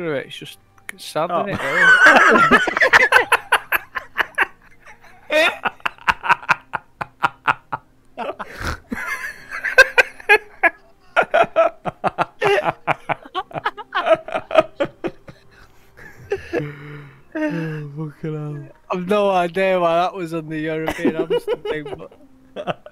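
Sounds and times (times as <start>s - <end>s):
people laughing: 1.5s - 17.8s, 20.8s - 22.9s.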